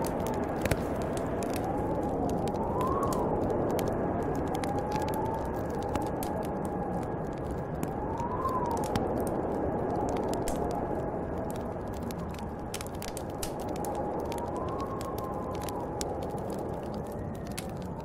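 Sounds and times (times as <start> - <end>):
howling wind: 0.0 - 18.0
wood fire crackling: 0.0 - 18.0.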